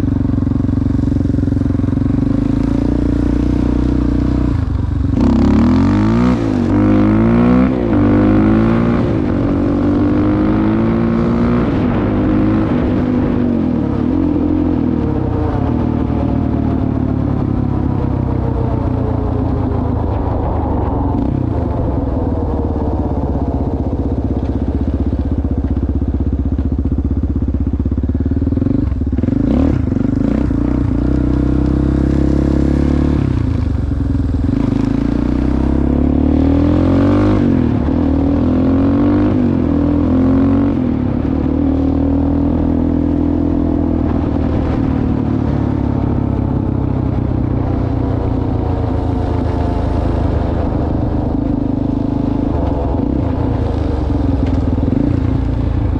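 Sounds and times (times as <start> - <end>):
atv engine running: 0.0 - 55.9.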